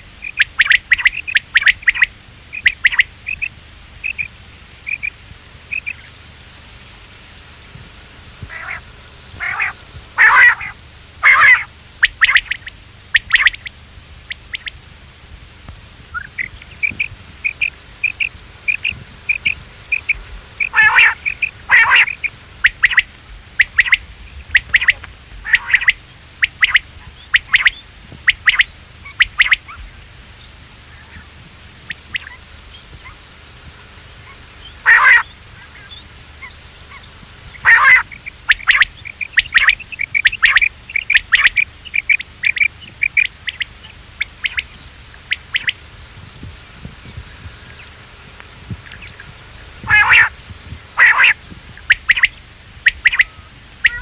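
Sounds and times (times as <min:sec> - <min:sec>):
quail calling: 0:00.2 - 0:14.9, 0:16.0 - 0:54.0.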